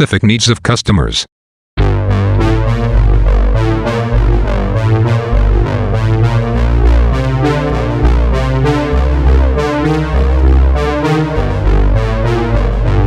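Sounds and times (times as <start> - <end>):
synthesizer and electric piano music: 1.8 - 13.0.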